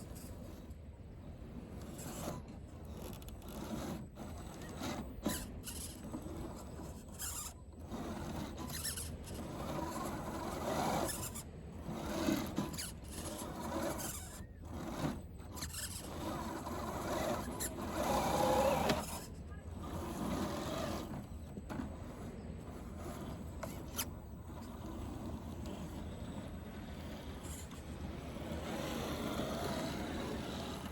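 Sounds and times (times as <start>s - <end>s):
toy car electric motor whining: 1.8s - 30.9s.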